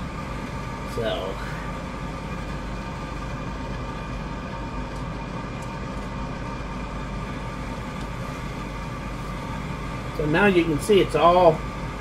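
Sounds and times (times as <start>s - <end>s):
blower fan rushing air: 0.0s - 12.0s.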